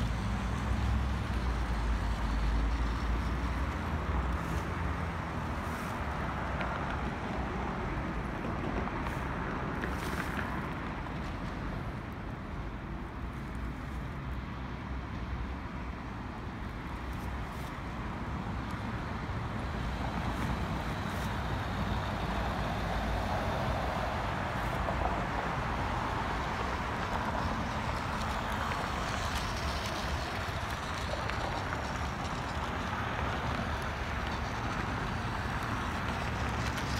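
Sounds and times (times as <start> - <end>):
cars running along road: 0.0 - 36.9.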